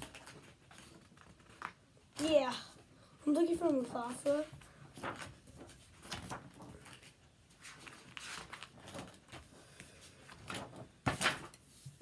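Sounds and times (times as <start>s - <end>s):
notebook pages rustling: 0.0s - 2.5s, 3.4s - 12.0s.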